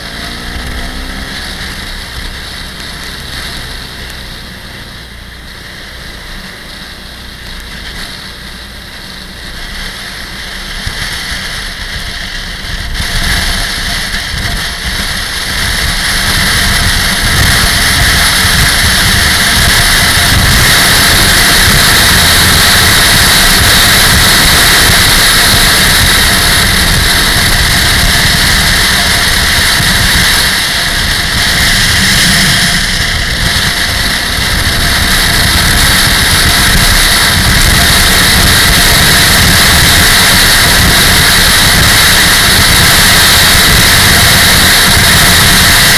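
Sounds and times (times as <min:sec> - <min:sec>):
motorcycle engine running: 0:00.0 - 0:45.9
wind noise on microphone: 0:00.0 - 0:45.9.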